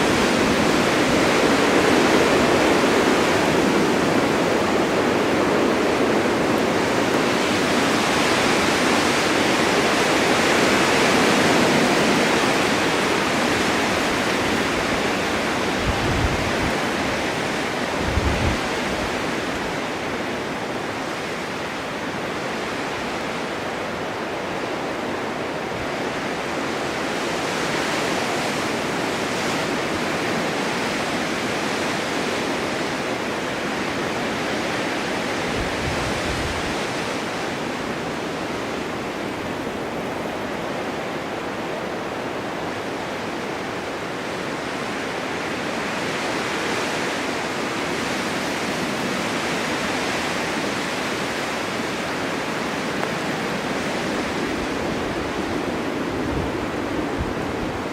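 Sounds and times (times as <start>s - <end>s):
blizzard wind blowing: 0.0s - 57.9s.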